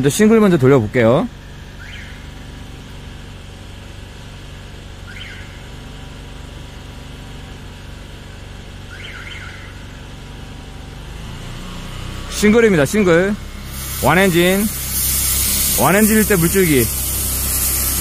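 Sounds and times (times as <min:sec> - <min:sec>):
jetter engine running: 0:00.0 - 0:18.0.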